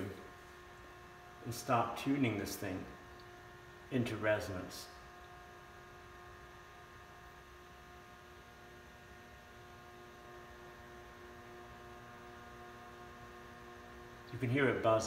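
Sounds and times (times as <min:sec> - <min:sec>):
induction heater humming: 0:00.0 - 0:15.0.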